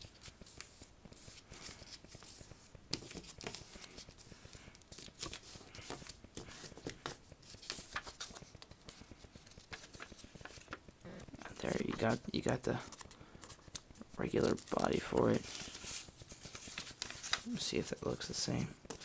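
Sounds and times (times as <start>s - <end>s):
paper being folded and creased: 0.0s - 19.0s.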